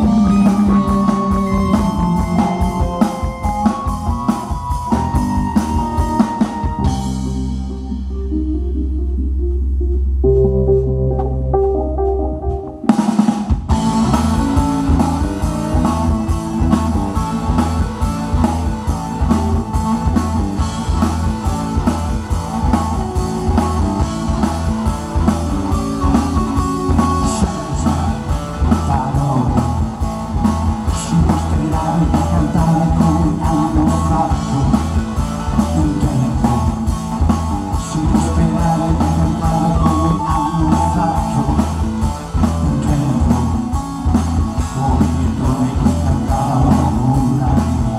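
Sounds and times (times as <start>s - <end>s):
drum kit: 0.0s - 8.4s, 10.3s - 47.9s
guitar: 0.0s - 47.9s
keyboards: 0.0s - 47.9s.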